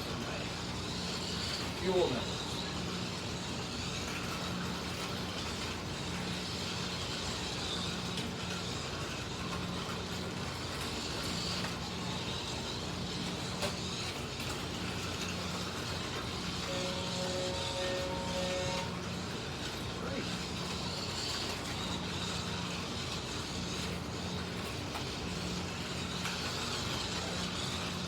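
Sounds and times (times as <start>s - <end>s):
slot cars whirring on track: 0.0s - 28.0s.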